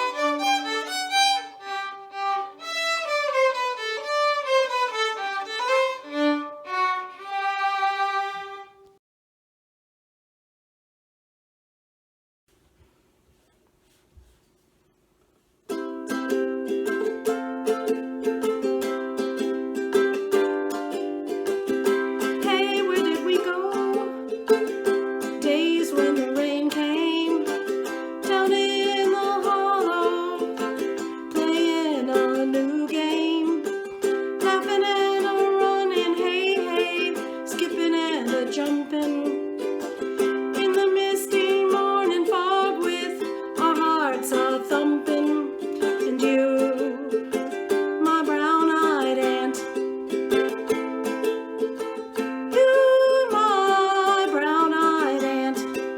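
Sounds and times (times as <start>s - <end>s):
instrumental music: 0.0s - 9.0s, 12.8s - 55.9s.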